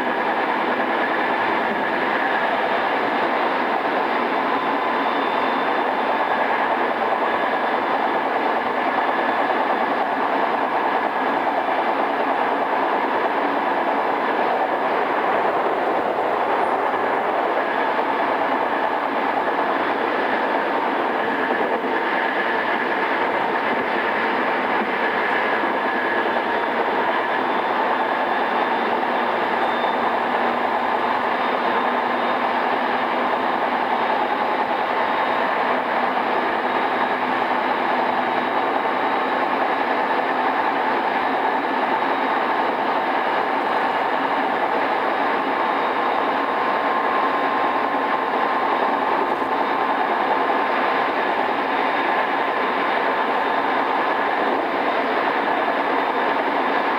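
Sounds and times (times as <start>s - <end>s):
faint steady whining tones: 0.0s - 56.9s
train wheels rumbling: 0.0s - 56.9s.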